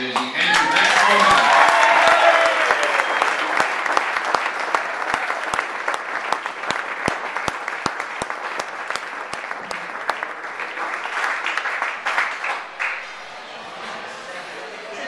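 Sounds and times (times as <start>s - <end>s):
people applauding: 0.0s - 13.6s.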